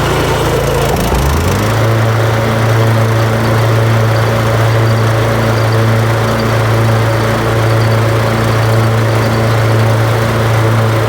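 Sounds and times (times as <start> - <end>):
lawn mower engine running: 0.0 - 11.0
mower blades ringing: 0.0 - 11.0.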